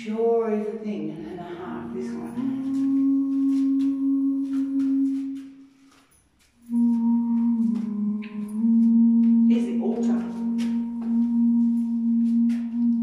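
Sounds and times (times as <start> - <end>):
person singing held notes: 1.2 - 13.0.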